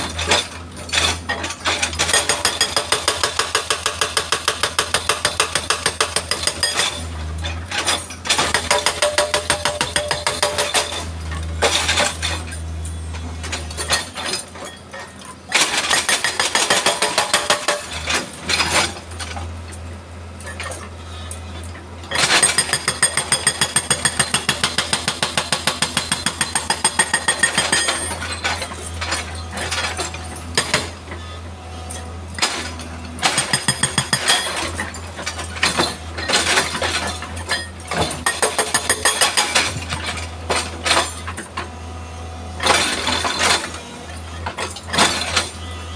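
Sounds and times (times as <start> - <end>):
hydraulic breaker hammering rock: 0.0 - 12.6, 13.5 - 19.5, 21.6 - 31.4, 32.3 - 41.7, 42.6 - 45.8.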